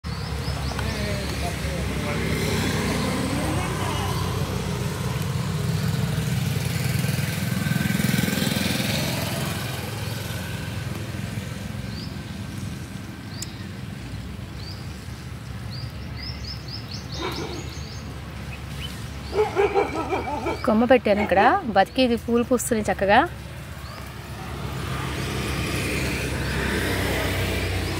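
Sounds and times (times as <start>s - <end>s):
vehicle engine rumbling: 0.0s - 27.9s.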